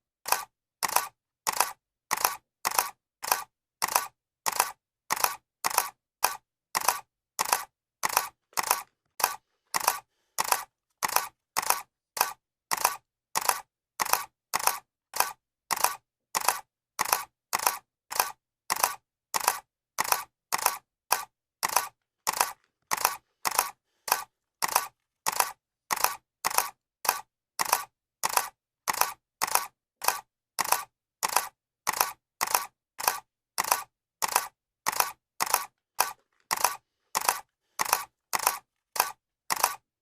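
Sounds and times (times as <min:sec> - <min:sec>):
camera shutter clicking: 0:00.3 - 0:39.8.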